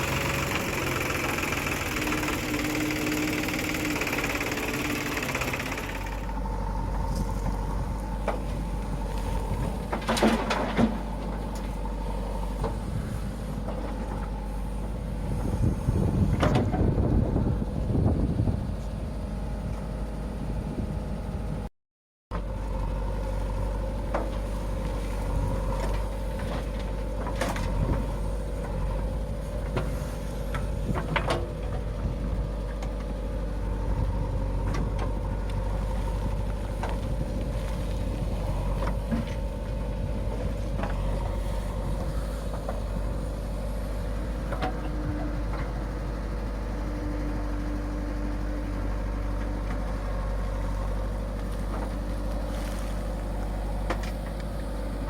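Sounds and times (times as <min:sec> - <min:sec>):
diesel engine running: 0:00.0 - 0:21.7, 0:22.3 - 0:55.0.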